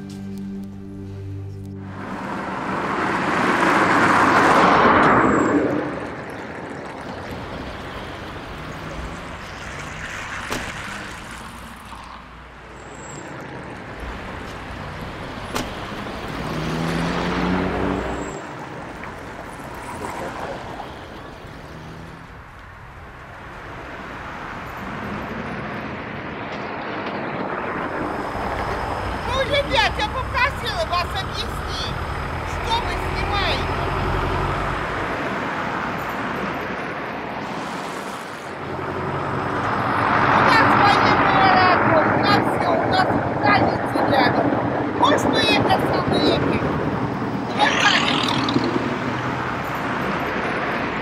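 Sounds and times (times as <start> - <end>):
vehicles passing by: 0.0 - 51.0.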